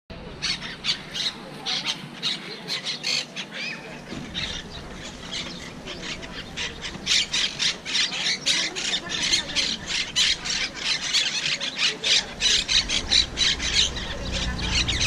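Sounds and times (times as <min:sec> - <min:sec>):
parakeets squawking: 0:00.1 - 0:15.0.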